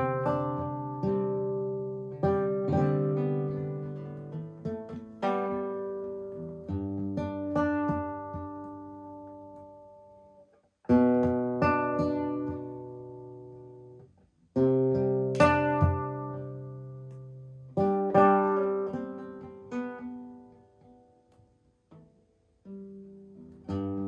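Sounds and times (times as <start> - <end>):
classical guitar playing: 0.0 - 24.0.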